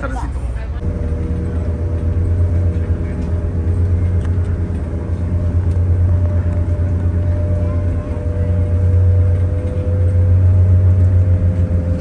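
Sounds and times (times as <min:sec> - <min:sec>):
vehicle engine rumble: 0:00.0 - 0:12.0
faint steady whine: 0:00.8 - 0:12.0.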